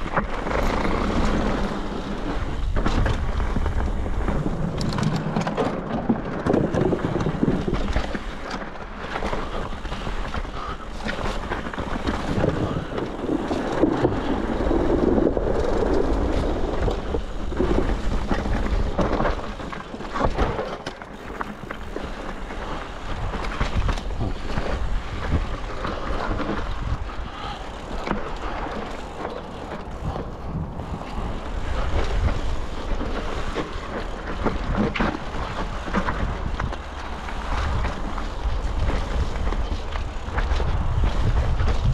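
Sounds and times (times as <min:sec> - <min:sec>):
bike knocking and rattling: 0:00.0 - 0:41.9
tyres rolling over dirt: 0:00.0 - 0:41.9
wind rumble on microphone: 0:00.0 - 0:41.9.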